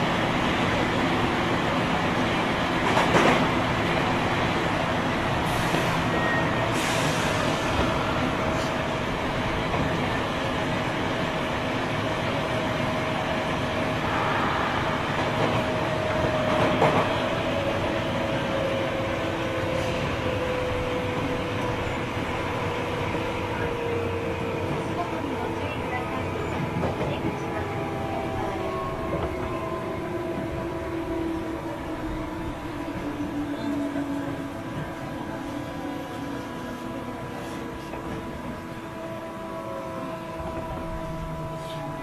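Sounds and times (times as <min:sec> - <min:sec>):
train interior rumble: 0:00.0 - 0:42.0.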